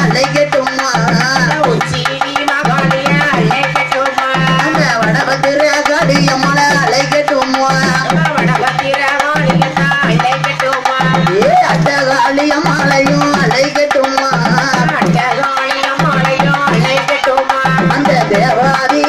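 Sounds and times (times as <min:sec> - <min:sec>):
hand drum beat: 0:00.0 - 0:19.0
woman singing through loudspeaker: 0:00.0 - 0:19.0.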